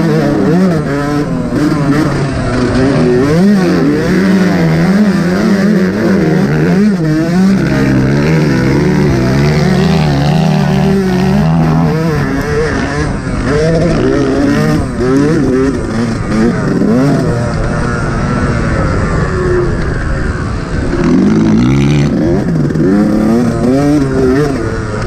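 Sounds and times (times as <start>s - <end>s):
dirt bike revving: 0.0s - 25.0s.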